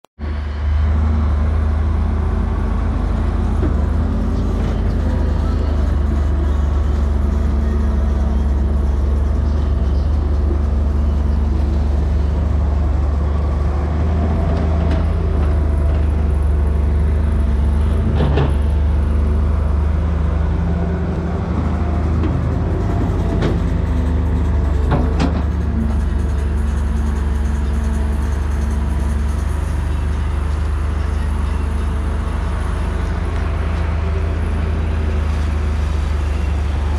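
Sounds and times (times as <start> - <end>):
excavator diesel engine droning: 0.2 - 36.9.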